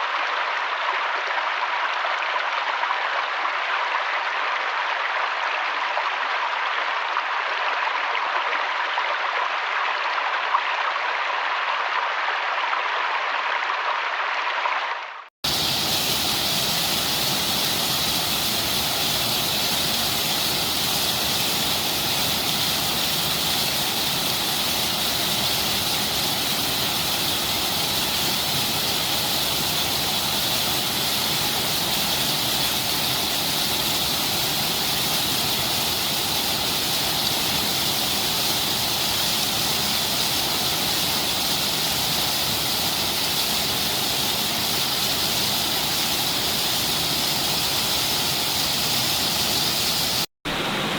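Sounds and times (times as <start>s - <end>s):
rushing water: 0.0s - 50.9s.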